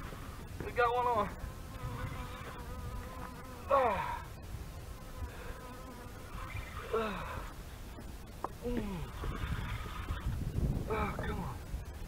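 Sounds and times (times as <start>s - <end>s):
faint buzzing hum: 0.0s - 12.0s.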